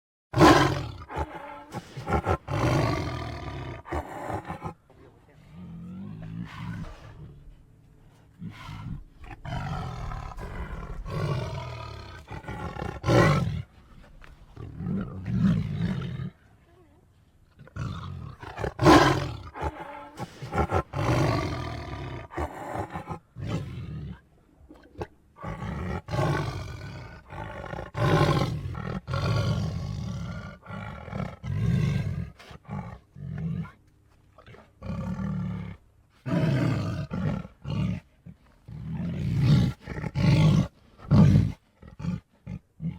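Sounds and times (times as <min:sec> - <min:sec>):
big cat roars and snarls: 0:00.4 - 0:16.8, 0:17.5 - 0:33.8, 0:34.4 - 0:42.9.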